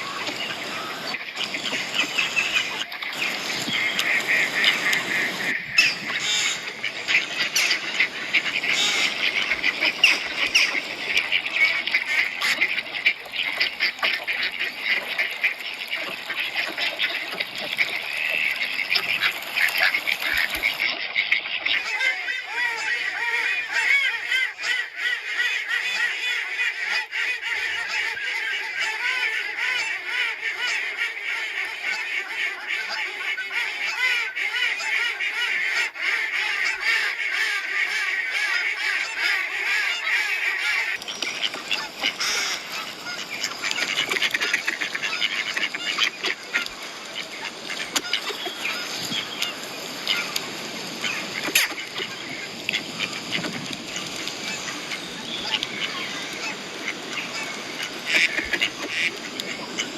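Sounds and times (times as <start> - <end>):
ducks quacking: 0.0 - 59.9
geese honking: 0.0 - 59.9.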